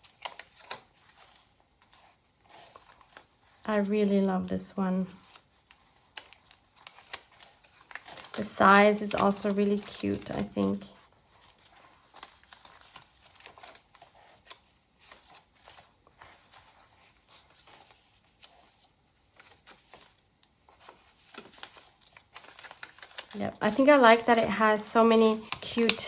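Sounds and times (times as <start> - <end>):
paper rustling and page turns: 0.0 - 26.0.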